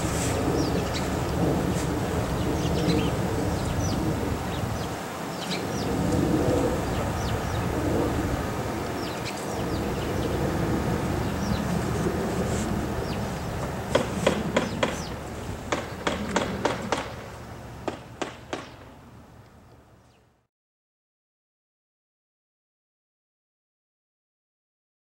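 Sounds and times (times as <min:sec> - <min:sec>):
birds chirping: 0:00.0 - 0:20.4.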